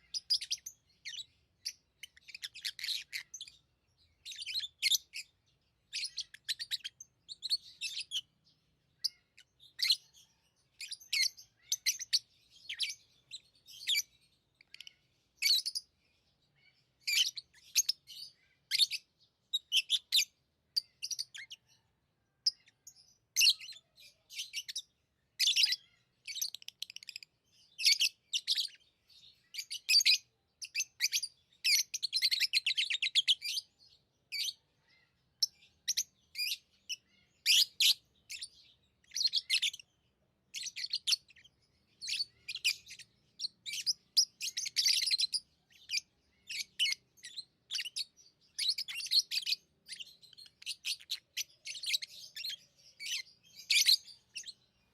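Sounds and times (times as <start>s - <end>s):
lovebirds chattering rapidly: 0.0s - 21.8s, 22.4s - 54.9s
lovebirds chirping: 0.0s - 54.9s.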